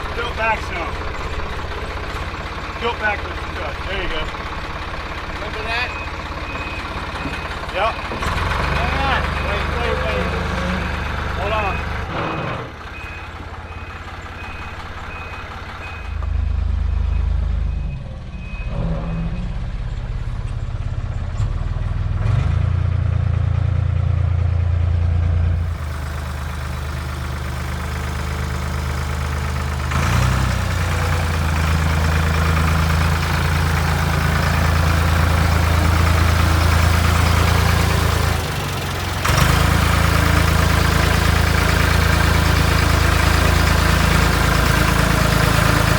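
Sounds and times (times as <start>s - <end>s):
forklift engine revving: 0.0s - 45.9s.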